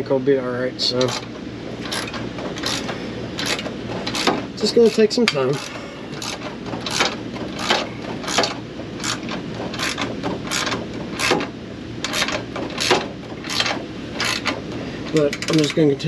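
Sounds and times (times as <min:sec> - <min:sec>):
faint hum: 0:00.0 - 0:16.0
hand ratchet rasping: 0:00.9 - 0:15.9.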